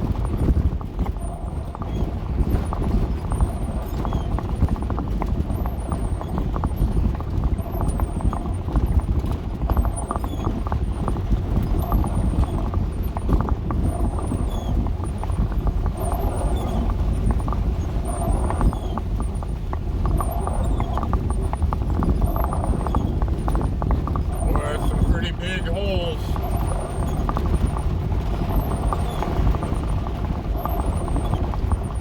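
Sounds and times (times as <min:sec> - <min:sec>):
van engine rumble: 0:00.0 - 0:32.0.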